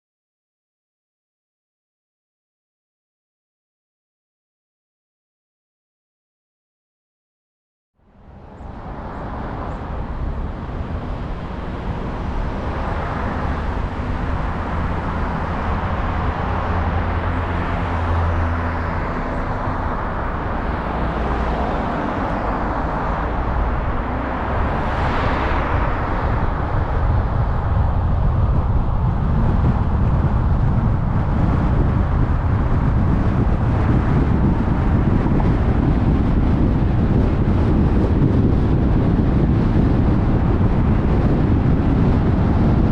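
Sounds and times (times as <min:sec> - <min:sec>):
car engine rumble: 0:08.0 - 0:42.9
passing vehicle whoosh: 0:08.0 - 0:42.9
road and tyre noise: 0:08.0 - 0:42.9.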